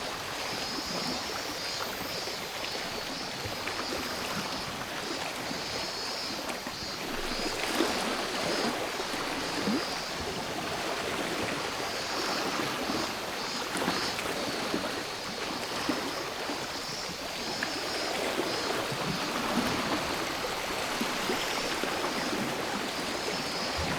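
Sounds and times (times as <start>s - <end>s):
cicadas buzzing: 0.2s - 23.9s.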